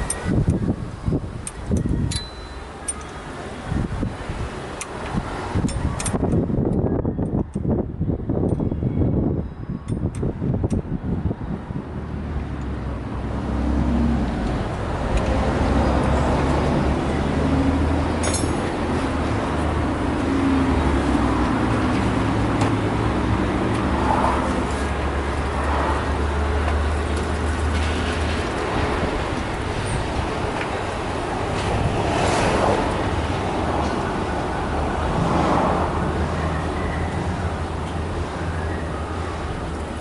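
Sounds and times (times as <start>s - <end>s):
motor vehicle humming: 0.0s - 40.0s.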